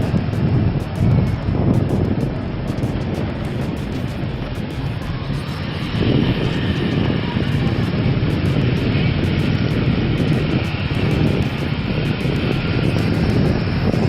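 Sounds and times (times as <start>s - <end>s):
scooter engine droning: 0.0s - 14.0s.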